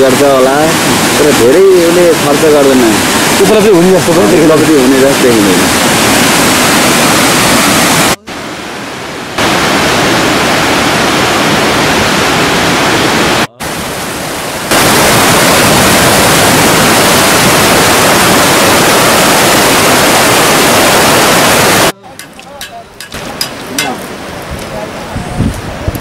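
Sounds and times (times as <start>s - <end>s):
river rapids rushing over rocks: 0.0s - 22.4s.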